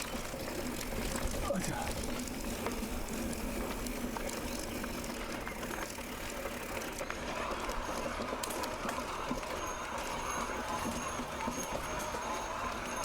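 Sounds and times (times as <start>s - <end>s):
bike rattles and clicks: 0.0s - 13.0s
bike tyres rolling on dirt: 0.0s - 13.0s.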